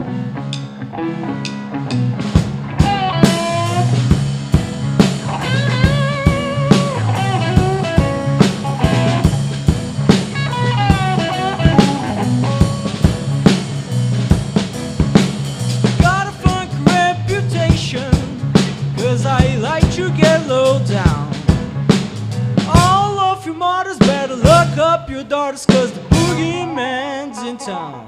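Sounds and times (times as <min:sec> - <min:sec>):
bass line: 0:00.0 - 0:28.0
blues guitar lead: 0:00.0 - 0:28.0
drum kit: 0:00.0 - 0:28.0.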